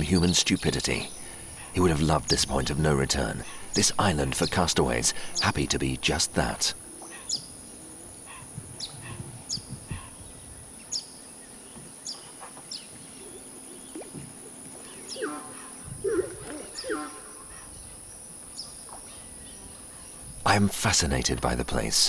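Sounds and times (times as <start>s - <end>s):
lower louder bird calls: 0.0s - 20.4s.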